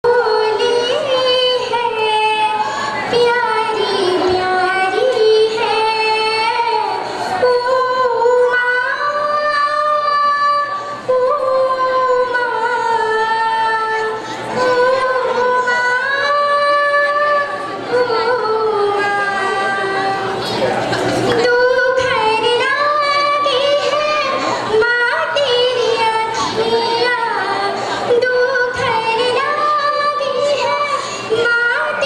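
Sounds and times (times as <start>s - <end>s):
girl singing into microphone: 0.0s - 32.0s.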